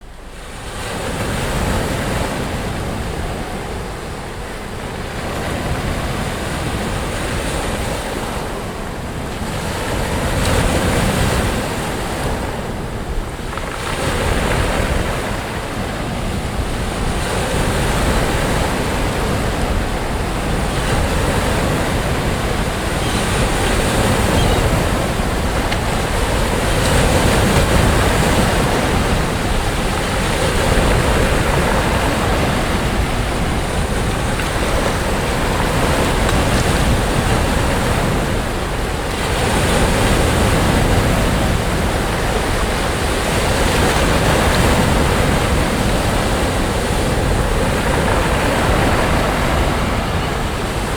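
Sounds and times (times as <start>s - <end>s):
sea waves breaking on beach: 0.0s - 50.9s
wind buffeting microphone: 0.0s - 50.9s.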